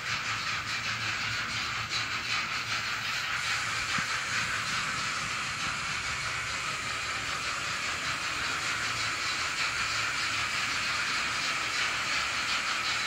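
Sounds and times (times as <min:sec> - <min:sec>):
steam hiss from small speaker: 0:00.0 - 0:13.0.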